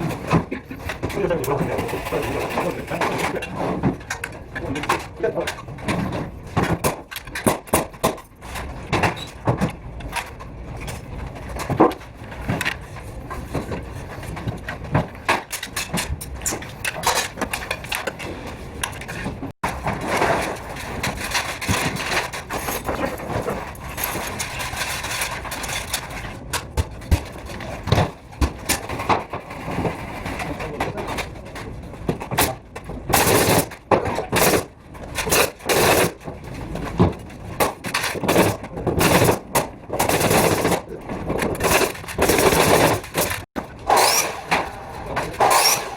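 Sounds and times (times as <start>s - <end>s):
carpentry knocks and clatter: 0.0s - 45.9s.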